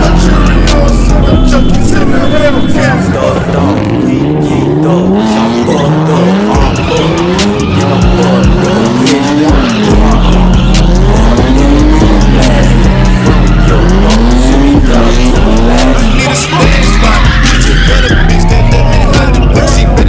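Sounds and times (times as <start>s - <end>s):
car engine revving: 0.0s - 20.0s
music with deep bass: 0.0s - 20.0s
tires squealing on pavement: 0.0s - 20.0s.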